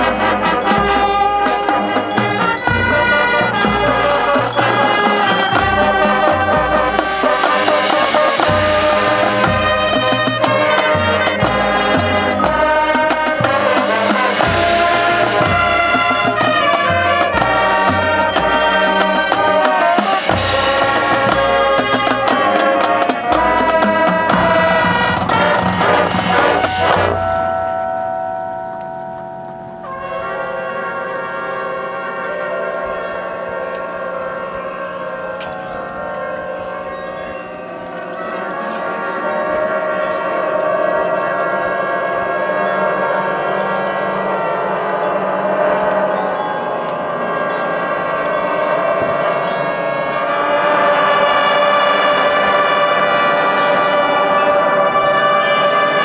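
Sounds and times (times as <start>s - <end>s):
brass holding chords: 0.0s - 56.0s.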